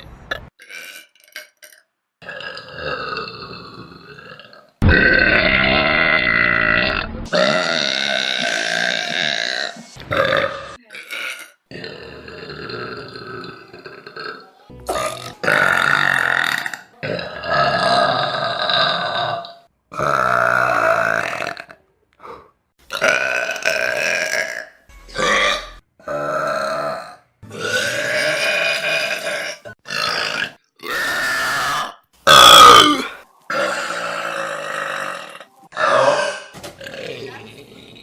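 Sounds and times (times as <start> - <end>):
person burping loudly: 0.3 - 21.8, 22.9 - 38.0.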